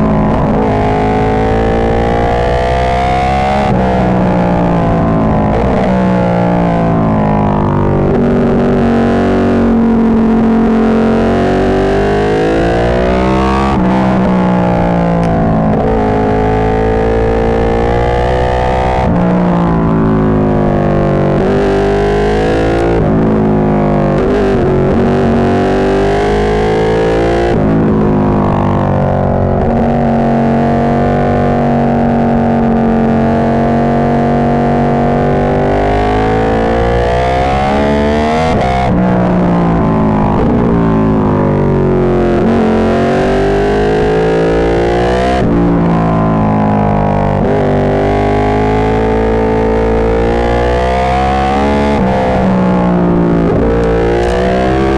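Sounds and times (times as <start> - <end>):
motorcycle engine revving through gears: 0.0 - 54.9.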